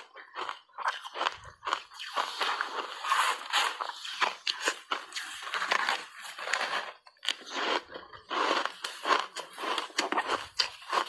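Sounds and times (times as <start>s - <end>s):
ice being bitten and chewed: 0.0s - 11.0s.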